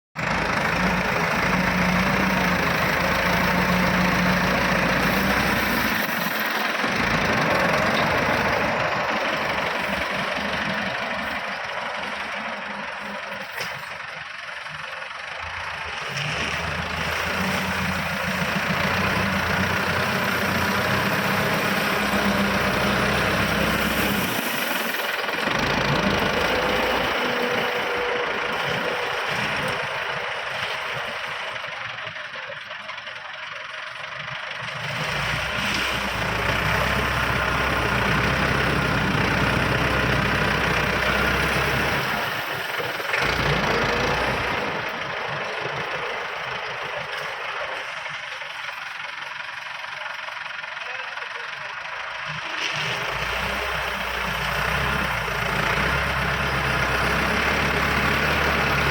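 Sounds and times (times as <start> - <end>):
tractor engine running: 0.2 - 58.9.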